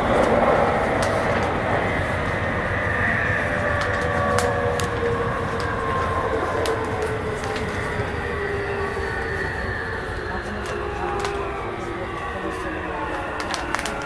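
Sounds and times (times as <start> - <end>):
traction motor whine: 0.0 - 14.0
wheels rumbling on rail: 0.0 - 14.0.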